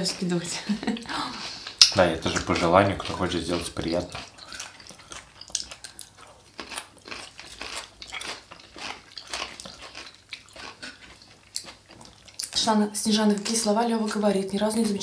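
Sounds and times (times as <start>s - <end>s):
chewing and crunching salad: 0.0s - 15.0s.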